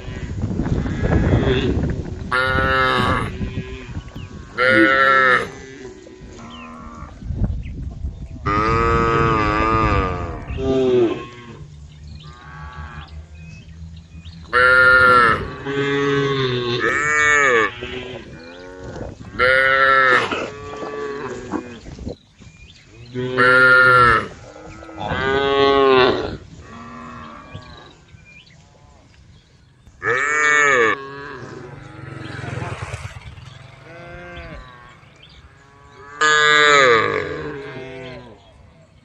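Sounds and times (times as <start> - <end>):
cows mooing: 0.0 - 7.2, 8.5 - 13.8, 14.4 - 22.0, 23.0 - 28.1, 30.0 - 38.6.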